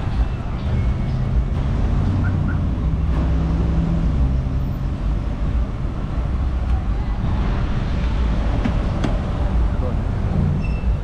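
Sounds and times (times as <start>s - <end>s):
car engine running: 0.0s - 10.6s.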